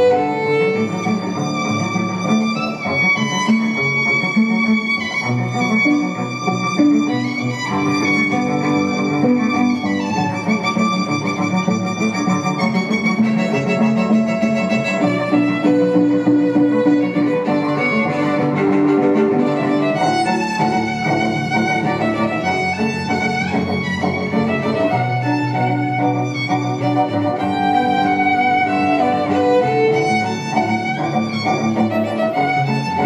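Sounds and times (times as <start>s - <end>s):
violin led string music: 0.0s - 33.0s.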